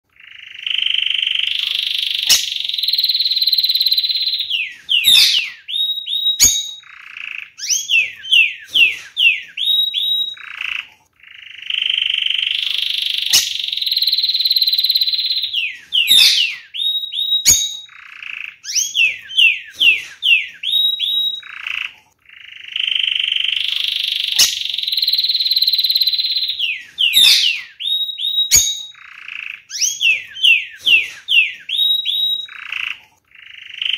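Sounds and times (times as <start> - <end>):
canary singing: 0.0 - 33.9.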